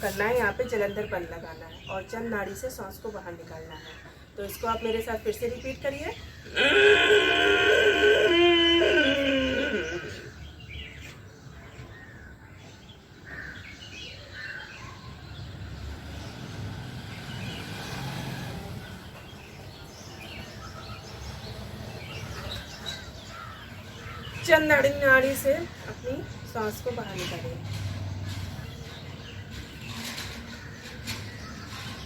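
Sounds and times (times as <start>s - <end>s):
birds chirping faintly: 0.0s - 32.0s.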